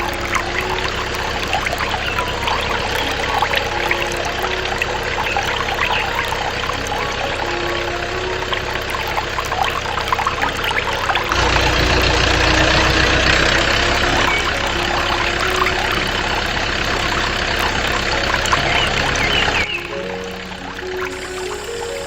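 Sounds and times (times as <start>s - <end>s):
low motor hum: 0.0s - 22.0s
water pouring and splashing: 0.0s - 22.0s.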